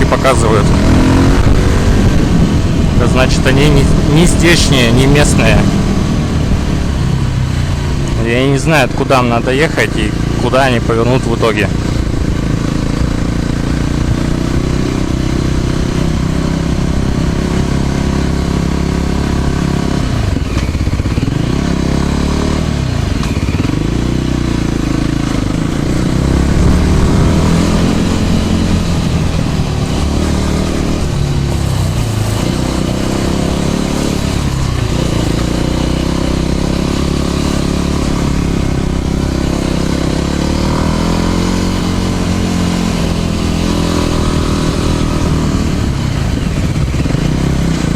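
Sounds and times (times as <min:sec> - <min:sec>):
motor scooter engine: 0:00.0 - 0:47.9
steady rushing noise: 0:00.0 - 0:47.9.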